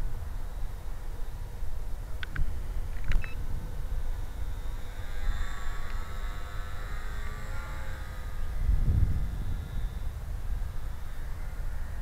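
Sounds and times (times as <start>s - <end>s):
rc plane motor whine: 0.0s - 12.0s
wind rumble on microphone: 0.0s - 12.0s.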